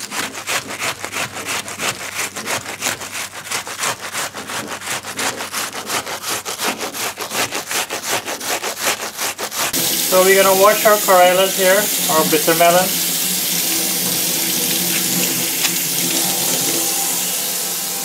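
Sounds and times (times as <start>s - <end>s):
onion grated on metal grater: 0.0s - 18.0s.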